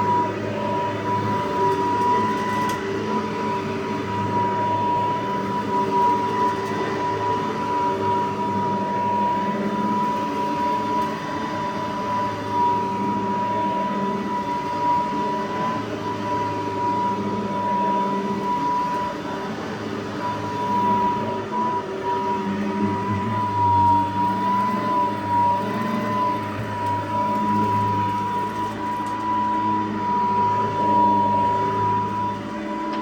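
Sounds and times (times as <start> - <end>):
vacuum motor whining: 0.0 - 33.0.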